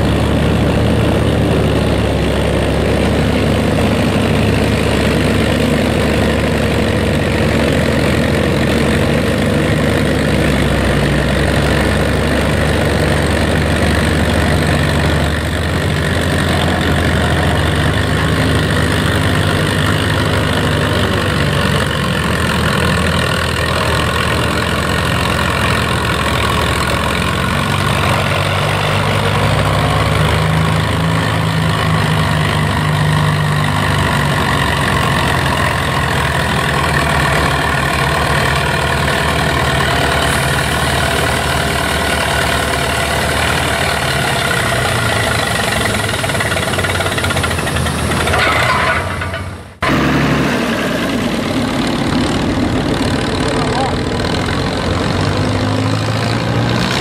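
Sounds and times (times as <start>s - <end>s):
tractor engine drone: 0.0s - 57.0s.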